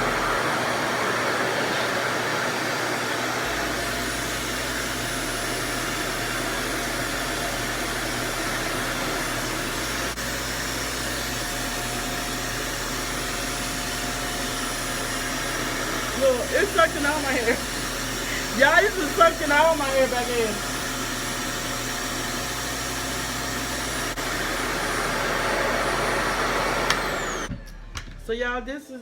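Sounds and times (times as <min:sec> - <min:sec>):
hair dryer rushing air with whine: 0:00.0 - 0:28.4.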